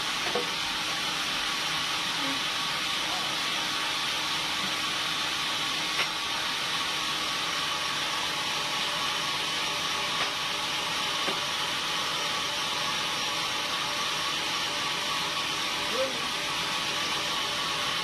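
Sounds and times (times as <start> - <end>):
sawmill machinery hissing: 0.0 - 18.0.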